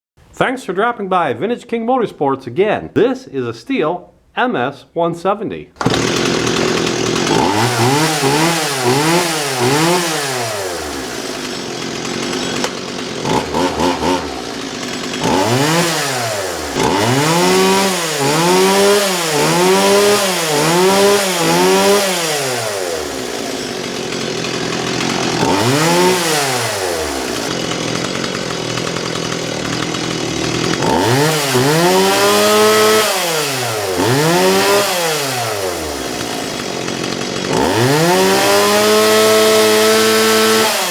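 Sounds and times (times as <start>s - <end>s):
chainsaw engine idling and revving: 5.8s - 40.9s.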